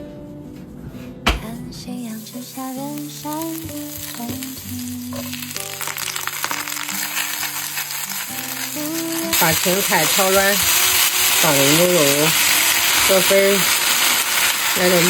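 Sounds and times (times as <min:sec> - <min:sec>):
background music: 0:00.0 - 0:15.0
vegetables sizzling in hot oil: 0:02.0 - 0:15.0.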